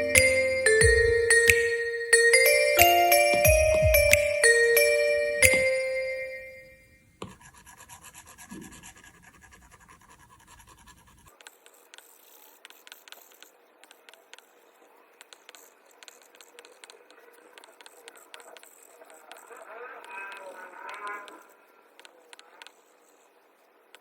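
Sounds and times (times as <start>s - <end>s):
stylus drawing on tablet screen: 0.0s - 24.0s.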